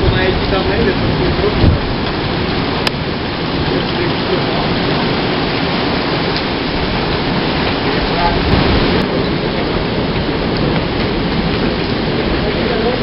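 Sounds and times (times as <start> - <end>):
torrential rain on pavement: 0.0 - 13.0.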